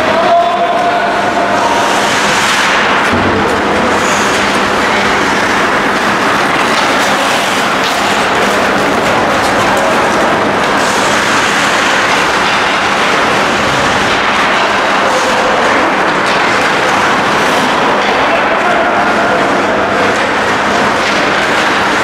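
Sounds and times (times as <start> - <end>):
ice hockey rink rushing noise: 0.0 - 22.0.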